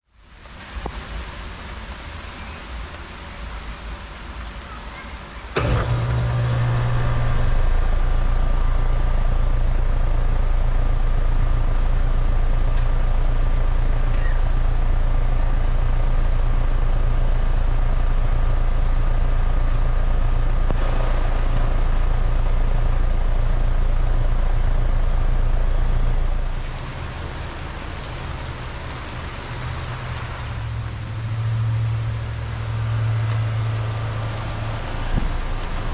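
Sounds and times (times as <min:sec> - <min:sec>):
heat pump compressor and fan humming: 0:05.6 - 0:35.9.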